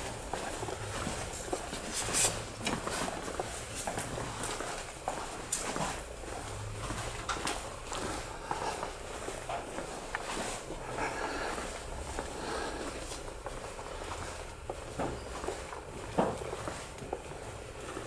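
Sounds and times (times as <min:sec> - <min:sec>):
footsteps on pavement: 0:02.6 - 0:18.0.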